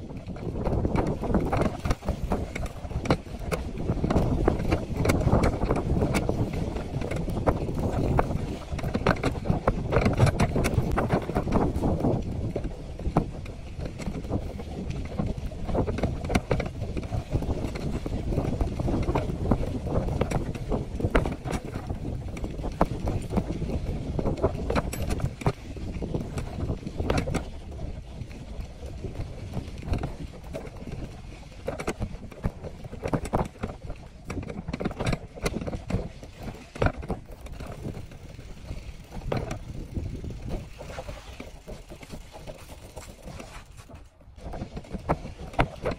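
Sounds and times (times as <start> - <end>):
bicycle tyres rumbling on dirt: 0.0 - 45.9
bike and wire basket rattling: 0.0 - 45.9
wind on microphone: 0.0 - 45.9.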